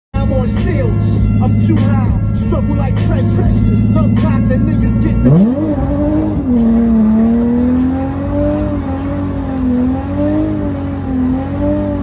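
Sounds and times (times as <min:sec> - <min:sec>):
car engine at high revs: 0:00.8 - 0:12.0.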